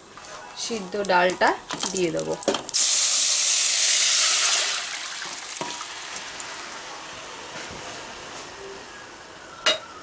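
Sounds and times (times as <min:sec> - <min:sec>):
oil sizzling: 0:00.0 - 0:08.3.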